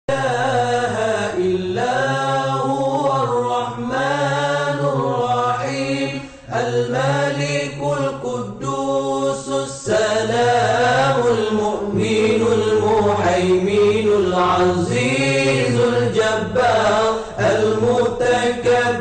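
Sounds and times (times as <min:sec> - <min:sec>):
melodic vocal chanting: 0:00.1 - 0:19.0.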